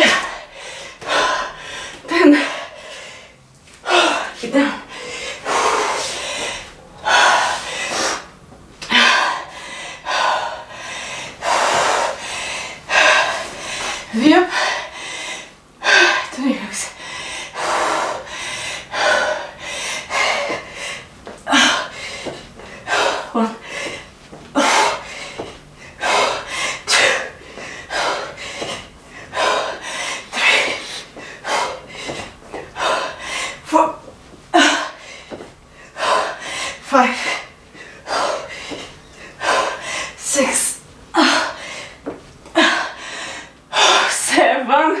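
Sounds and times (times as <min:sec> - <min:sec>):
woman breathing hard: 0:00.0 - 0:33.8, 0:34.5 - 0:44.4.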